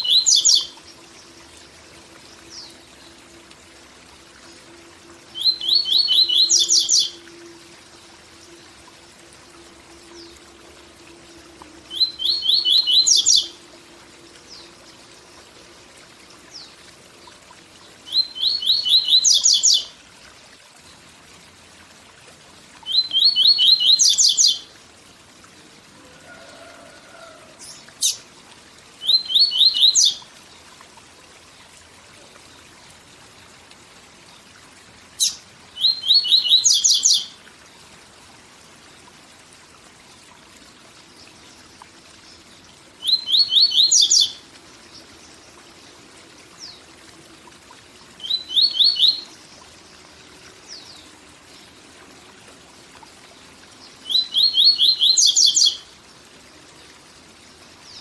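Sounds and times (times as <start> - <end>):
faint waterfall hiss: 0.0 - 58.0.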